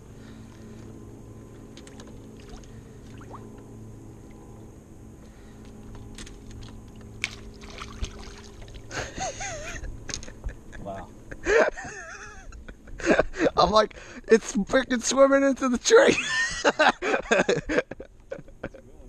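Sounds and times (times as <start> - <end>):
boat motor hum: 0.0 - 19.0.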